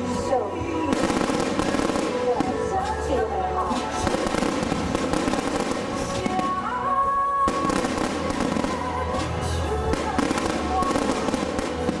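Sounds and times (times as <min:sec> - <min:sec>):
fireworks crackling: 0:00.0 - 0:12.0
music playing: 0:00.0 - 0:12.0.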